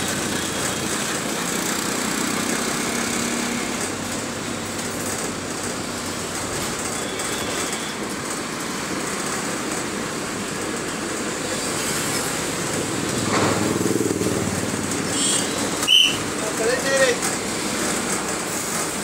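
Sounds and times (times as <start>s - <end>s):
bus engine: 0.0s - 19.0s
road noise: 0.0s - 19.0s.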